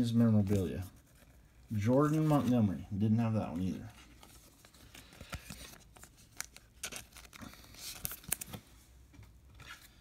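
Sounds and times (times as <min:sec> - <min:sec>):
trading cards rustling: 0:00.2 - 0:08.8.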